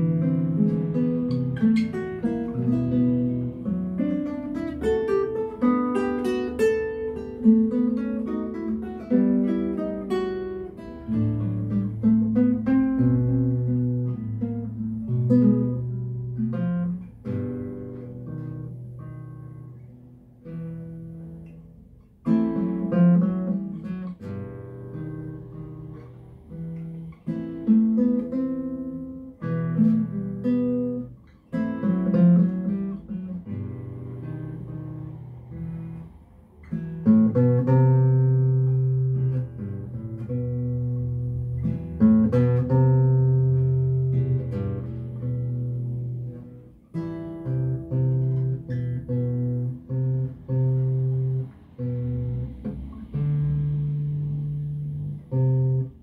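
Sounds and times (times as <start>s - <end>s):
classical guitar duet: 0.0s - 56.0s.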